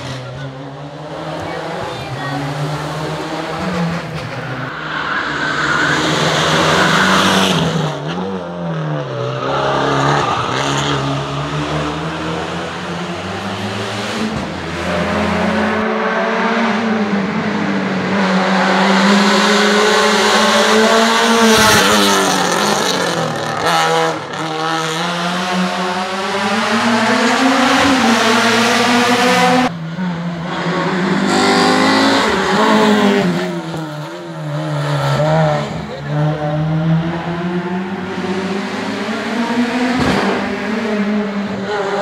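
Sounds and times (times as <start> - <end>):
race car engine at full throttle: 0.0 - 42.0.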